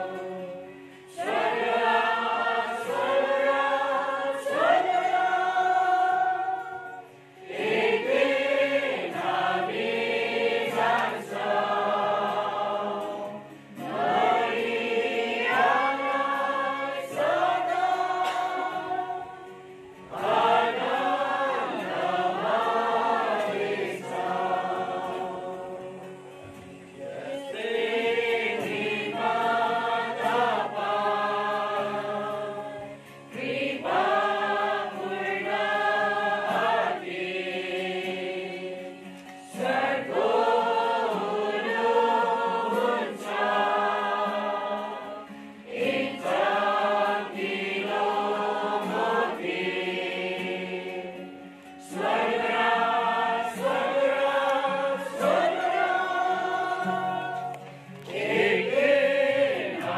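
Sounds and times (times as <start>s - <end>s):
acoustic guitar: 0.0s - 59.9s
congregation singing a hymn: 0.0s - 59.9s.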